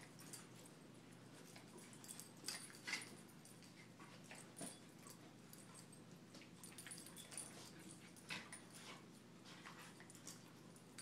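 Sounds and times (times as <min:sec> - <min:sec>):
dogs scuffling on carpet: 0:01.2 - 0:11.0.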